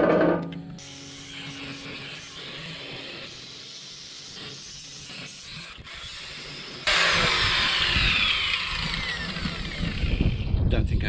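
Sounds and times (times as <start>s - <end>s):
angle grinder cutting steel: 0.7s - 10.6s.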